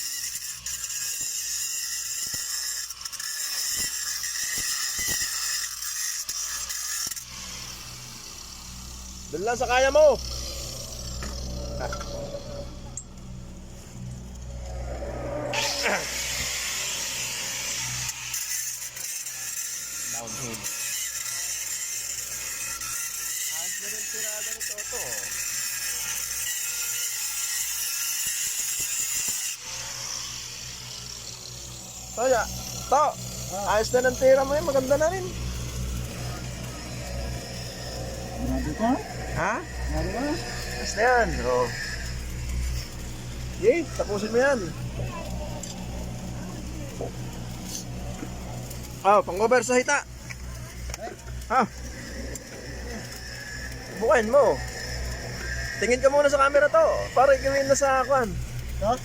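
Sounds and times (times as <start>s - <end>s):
welding arc crackling and hissing: 0.0s - 59.0s.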